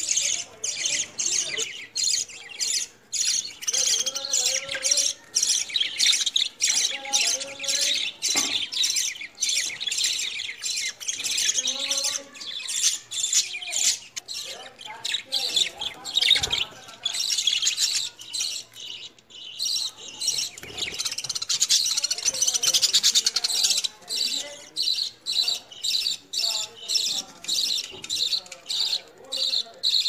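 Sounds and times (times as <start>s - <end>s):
budgerigars chirping and chattering: 0.0s - 30.0s.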